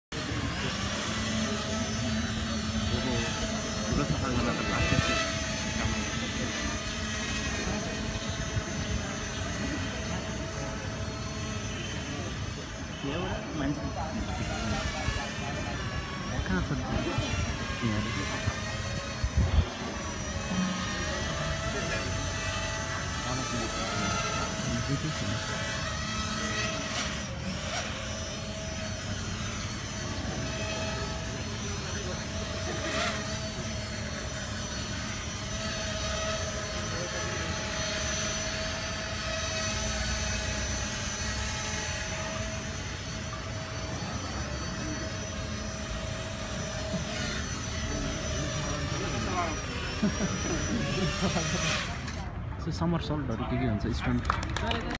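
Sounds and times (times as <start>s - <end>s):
drone propellers humming: 0.1s - 54.9s.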